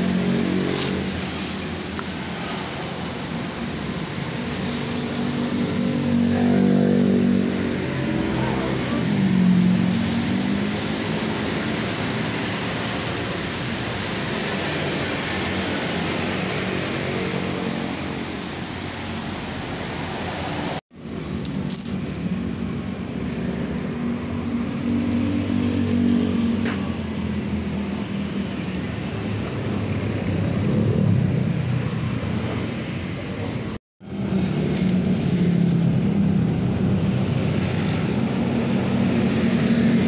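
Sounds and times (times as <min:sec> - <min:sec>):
passing vehicle engines: 0:00.0 - 0:40.0.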